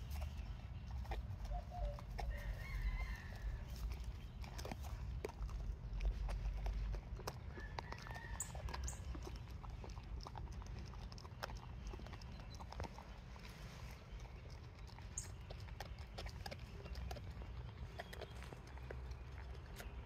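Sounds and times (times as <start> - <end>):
dog crunching bones: 0.0 - 20.0.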